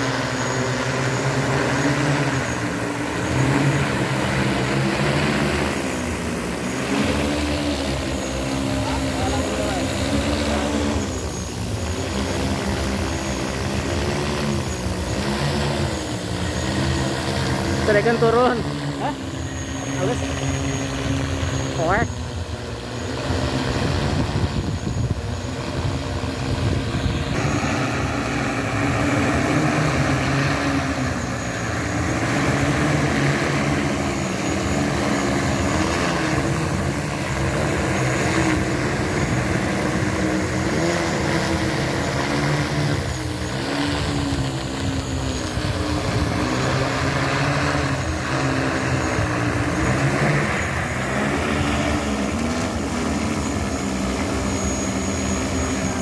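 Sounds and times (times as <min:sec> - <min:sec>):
drone rotors humming: 0:00.0 - 0:56.0.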